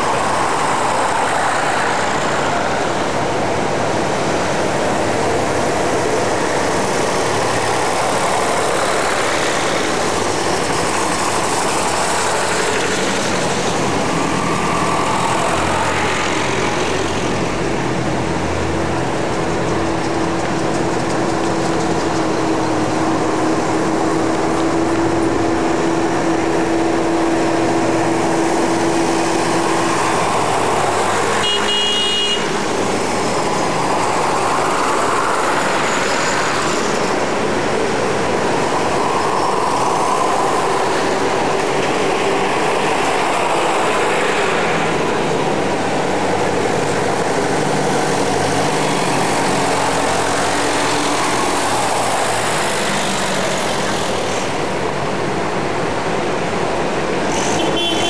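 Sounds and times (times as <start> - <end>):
tractor engines driving past: 0.0 - 58.0.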